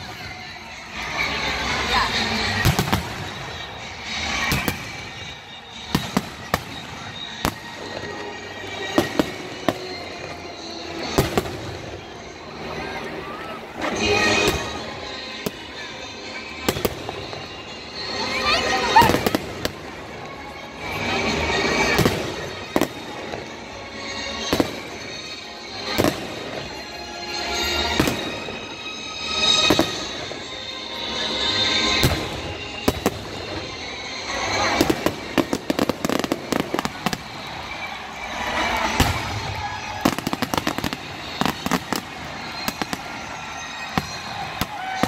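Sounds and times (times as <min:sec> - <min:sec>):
music: 0:00.0 - 0:45.0.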